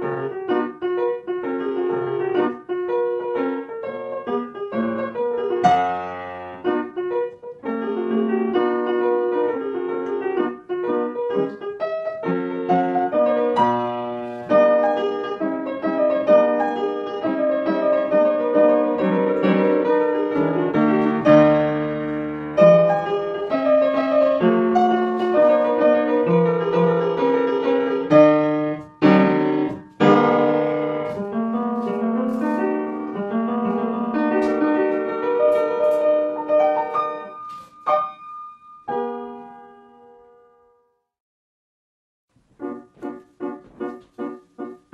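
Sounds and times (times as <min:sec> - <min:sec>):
piano music: 0:00.0 - 0:41.1, 0:42.3 - 0:44.9.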